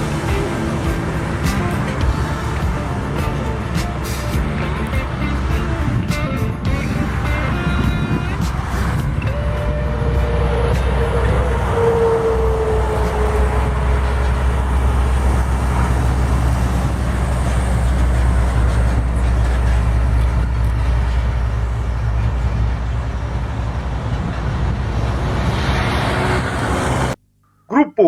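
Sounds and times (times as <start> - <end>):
tyre and road noise: 0.0 - 27.2
truck engine rumble: 0.0 - 27.8.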